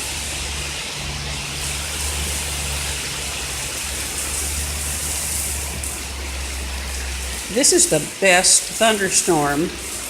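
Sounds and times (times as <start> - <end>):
torrential rain pouring: 0.0 - 10.0.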